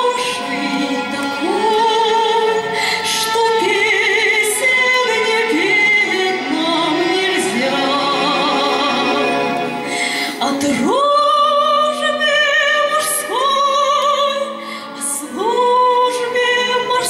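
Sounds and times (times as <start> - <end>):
woman singing into microphone: 0.0 - 17.0.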